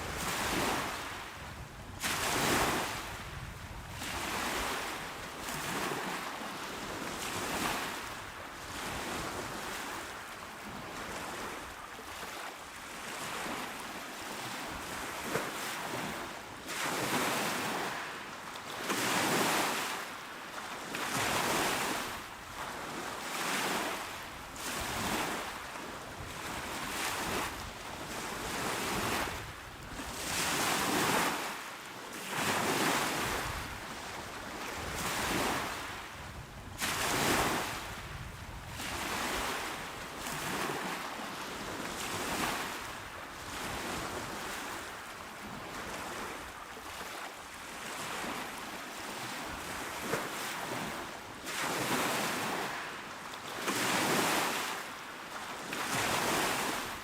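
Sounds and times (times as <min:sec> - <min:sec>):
small waves washing ashore: 0:00.0 - 0:57.0.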